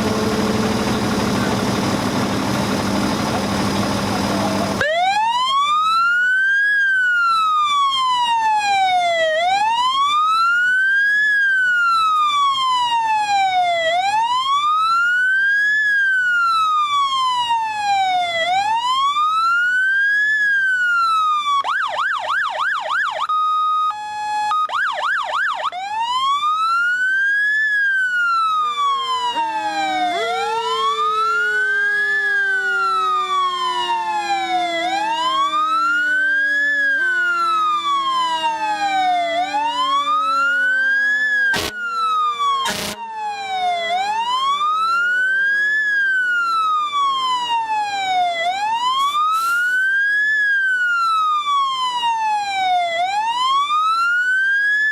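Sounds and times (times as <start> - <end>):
fire engine siren wailing: 0.0 - 54.9
lower siren tone: 0.0 - 54.9.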